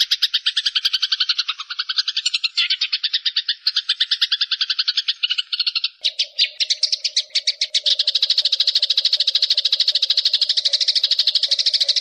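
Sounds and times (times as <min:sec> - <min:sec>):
bush-cricket pulsing call: 0:00.0 - 0:12.0.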